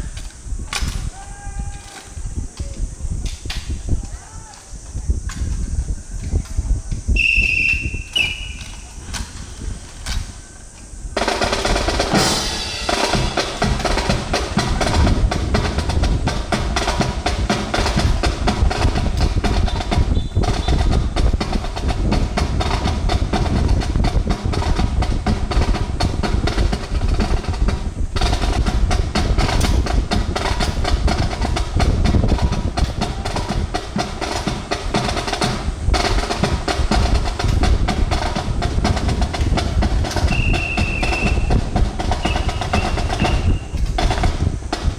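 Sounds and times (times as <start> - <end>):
marching snare drums: 7.1 - 9.9, 11.2 - 44.9.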